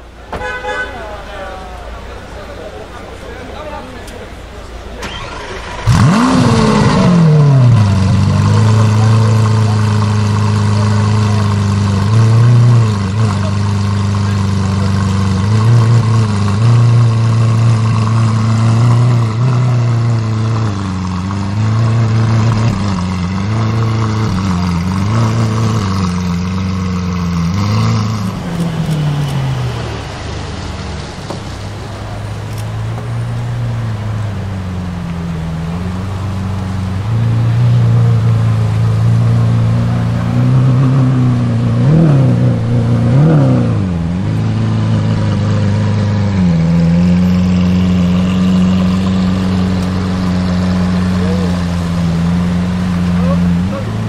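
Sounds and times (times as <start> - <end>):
sports car engine revving and idling: 1.7 - 54.0.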